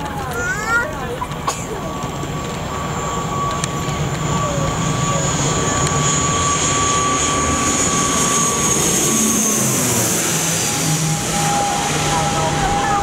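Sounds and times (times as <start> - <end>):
high turbine whine: 0.0 - 13.0
propeller plane drone: 0.0 - 13.0.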